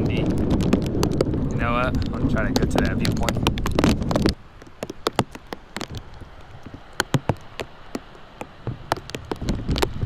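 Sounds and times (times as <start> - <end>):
large raindrops tapping: 0.0 - 10.0
steady hiss of rain: 0.0 - 10.0.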